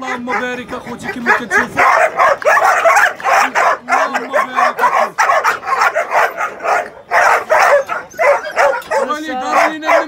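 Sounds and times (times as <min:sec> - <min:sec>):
young dogs barking rapidly: 0:00.0 - 0:10.0.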